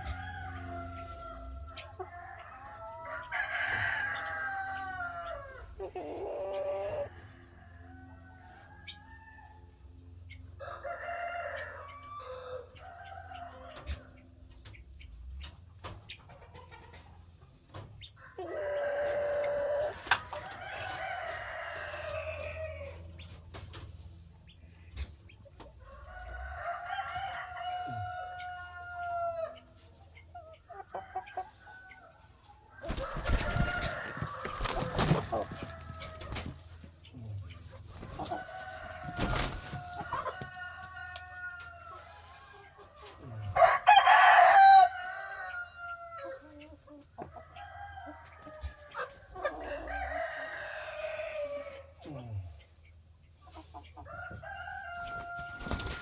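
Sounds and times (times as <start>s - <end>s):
roosters crowing: 0.0s - 14.5s, 17.7s - 25.0s, 25.6s - 52.6s, 53.9s - 56.0s
hens clucking: 0.0s - 56.0s.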